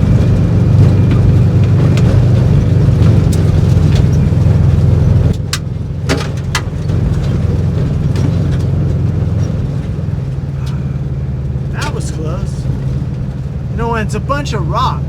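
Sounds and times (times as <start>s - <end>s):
body knocks and rattles: 0.0s - 13.6s
engine running steadily: 0.0s - 15.0s.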